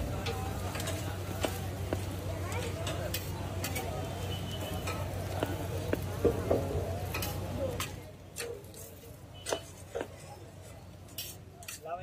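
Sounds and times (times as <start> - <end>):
metal spatula scraping griddle: 0.2 - 2.0, 2.6 - 12.0.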